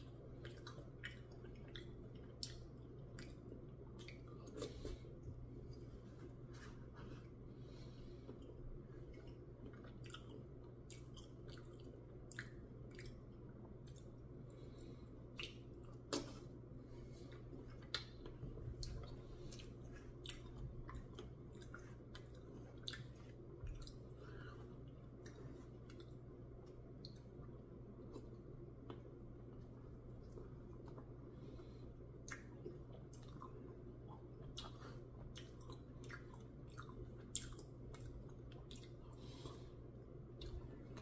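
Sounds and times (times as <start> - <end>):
low steady hum: 0.0 - 41.0
person chewing: 0.0 - 41.0.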